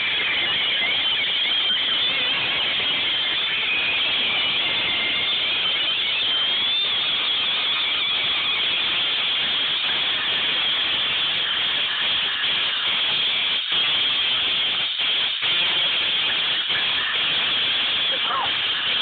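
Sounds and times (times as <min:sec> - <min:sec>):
faint wavering high whistles: 0:00.0 - 0:19.0
steady loud hissing: 0:00.0 - 0:19.0.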